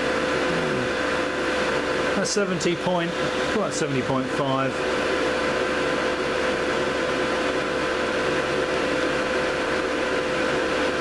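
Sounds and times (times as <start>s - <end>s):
cooling fans blowing air: 0.0s - 11.0s.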